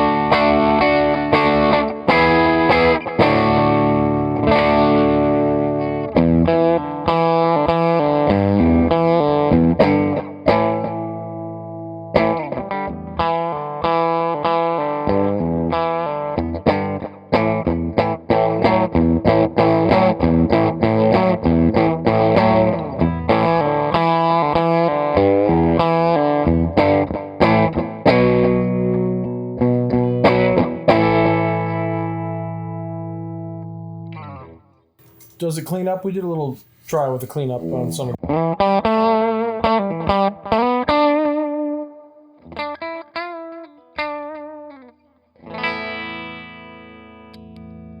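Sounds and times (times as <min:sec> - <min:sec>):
overdriven electric guitar: 0:00.0 - 0:35.4, 0:38.1 - 0:48.0.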